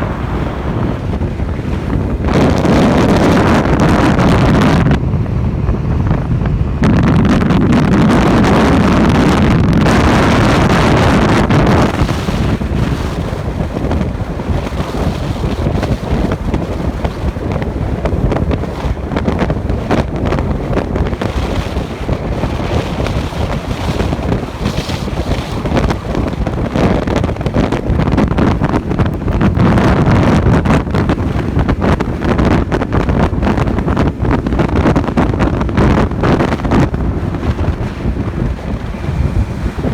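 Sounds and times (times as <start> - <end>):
motorcycle road noise: 0.0 - 39.9
wind buffeting microphone: 0.0 - 39.9.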